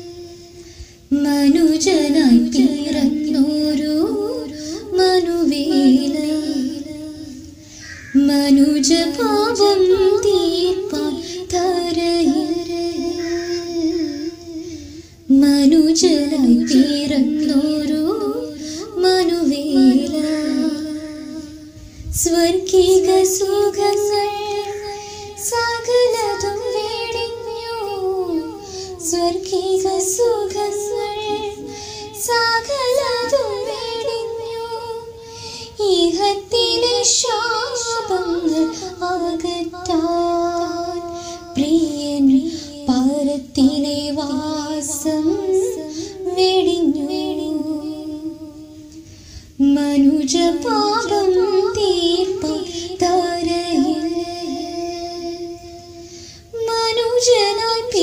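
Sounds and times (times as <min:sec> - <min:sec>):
woman singing: 0:00.0 - 0:58.0.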